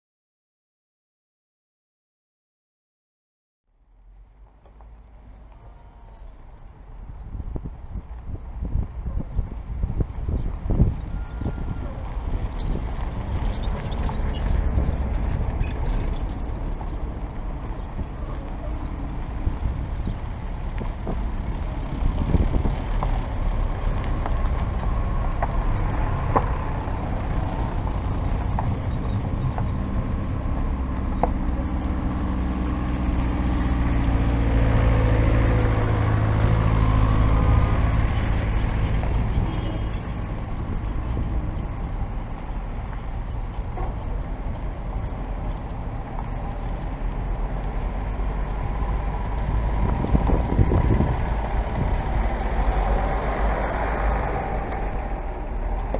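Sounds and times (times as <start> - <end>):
vehicles passing on gravel road: 3.8 - 55.9
diesel engine humming: 3.9 - 55.9.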